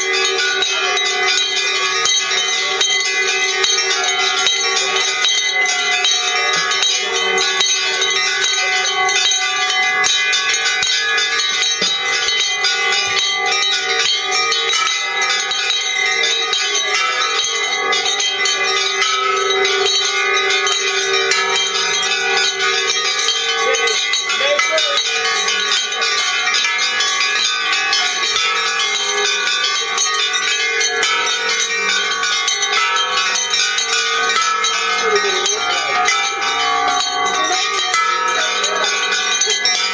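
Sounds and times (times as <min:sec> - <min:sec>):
many bells ringing together: 0:00.0 - 0:39.9.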